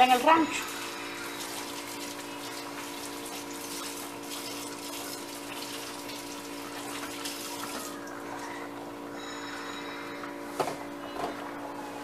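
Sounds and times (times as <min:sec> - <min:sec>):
multi-tone hum: 0:00.0 - 0:12.0.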